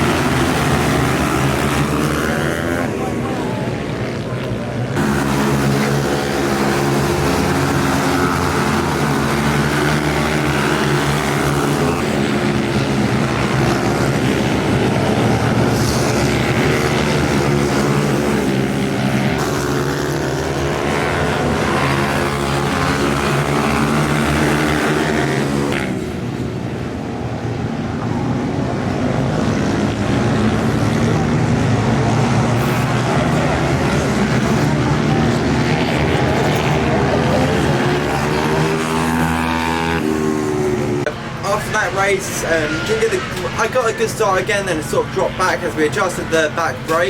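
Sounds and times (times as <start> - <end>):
pit bike engine revving: 0.0 - 47.0.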